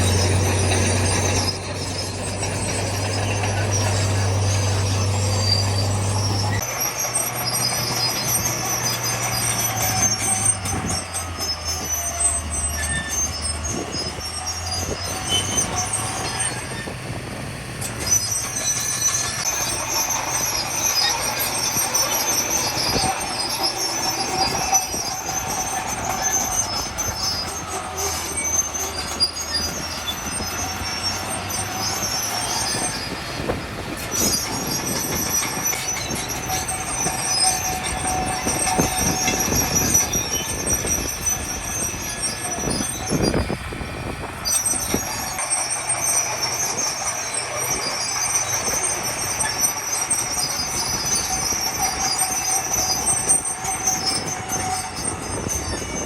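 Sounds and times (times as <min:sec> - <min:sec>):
steel and stone clanking: 0:00.0 - 0:17.0, 0:17.8 - 0:56.0
diesel engine hum: 0:00.0 - 0:56.0
high metallic squeal: 0:00.0 - 0:56.0.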